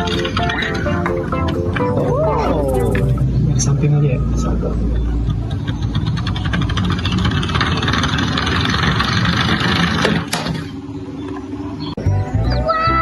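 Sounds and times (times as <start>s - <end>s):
car engine rattling: 0.0s - 11.7s.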